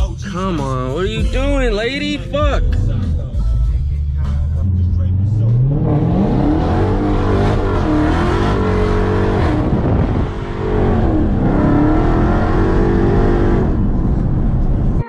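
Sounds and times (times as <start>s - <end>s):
car engine accelerating: 2.0s - 15.0s.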